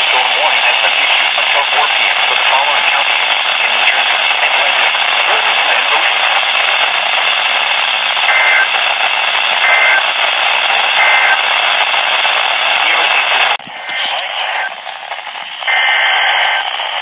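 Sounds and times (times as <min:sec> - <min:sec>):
two-tone data bursts: 0:00.0 - 0:14.8, 0:15.4 - 0:16.8
heavy radio static: 0:00.0 - 0:17.0.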